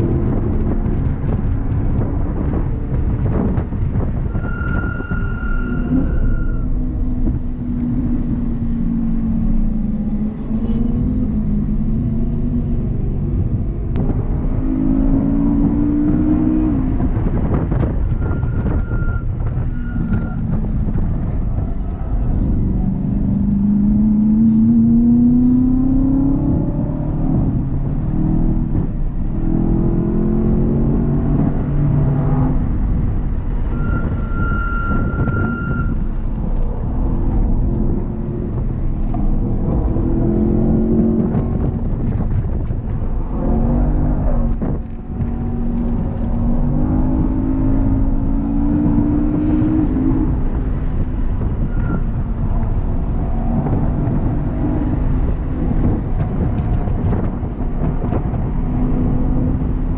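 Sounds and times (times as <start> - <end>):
car engine revving at full throttle: 0.0 - 4.5, 5.7 - 59.9
road and wind rumble: 0.0 - 59.9.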